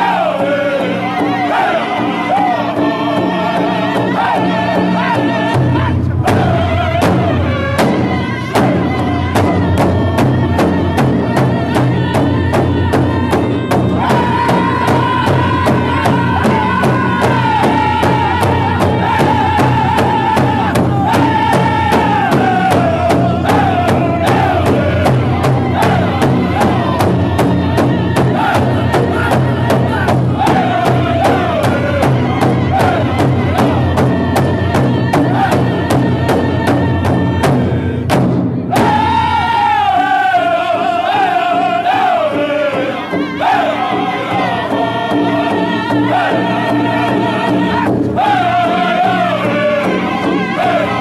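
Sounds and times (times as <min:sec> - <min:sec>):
men's voices chanting in chorus: 0:00.0 - 0:38.1, 0:38.7 - 0:51.0
large bass drum beat: 0:00.0 - 0:51.0.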